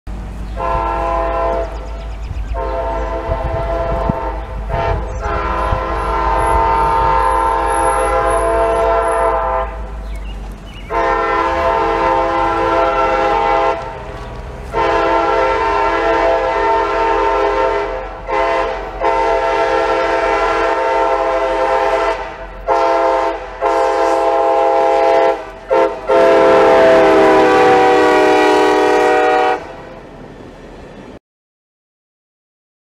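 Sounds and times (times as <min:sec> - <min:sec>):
train air horn blasts: 0:00.5 - 0:10.0, 0:10.9 - 0:30.1.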